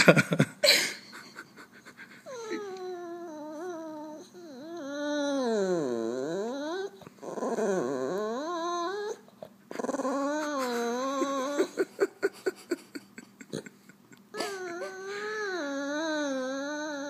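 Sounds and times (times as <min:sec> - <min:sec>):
dog whining and moaning: 0:02.1 - 0:17.0.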